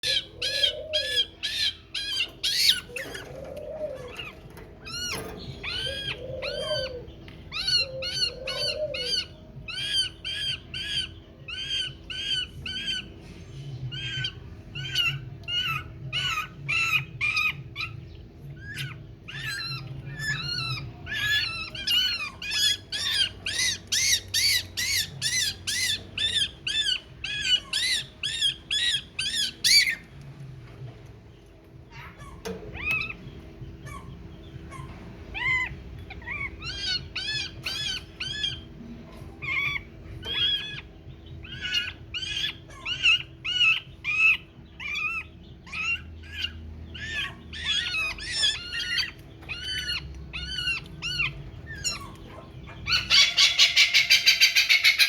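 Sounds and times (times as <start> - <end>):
young birds begging chirps: 0.0 - 55.0.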